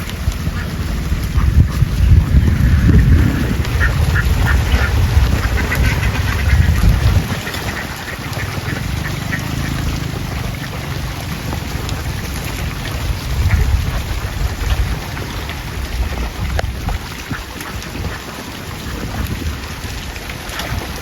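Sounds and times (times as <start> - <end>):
ducks quacking: 0.0 - 16.2, 17.0 - 20.0
heavy low rumble: 0.0 - 16.9.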